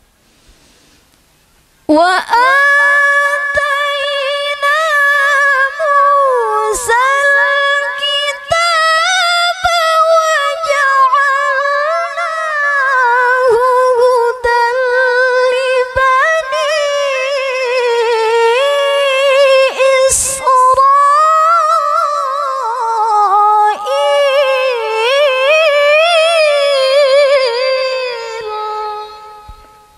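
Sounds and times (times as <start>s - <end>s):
woman reciting melodically: 1.9s - 29.9s.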